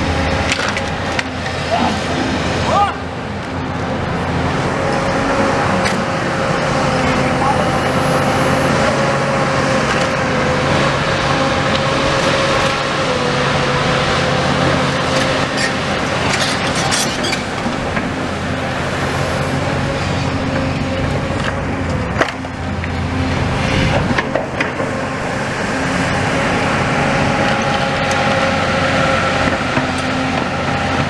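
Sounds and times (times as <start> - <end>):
engine hum with whine: 0.0 - 31.0.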